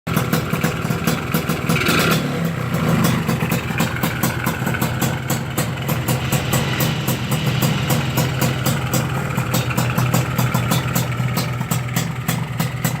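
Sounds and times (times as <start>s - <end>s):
motorcycle engine idling: 0.1s - 13.0s.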